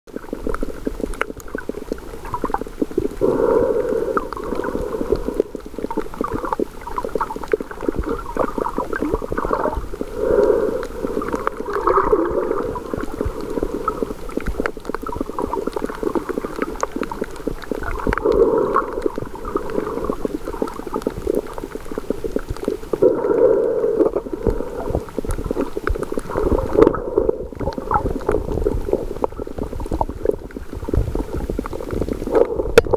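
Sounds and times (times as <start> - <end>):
muffled underwater water rumble: 0.1 - 32.9
rushing water surges: 3.2 - 32.9.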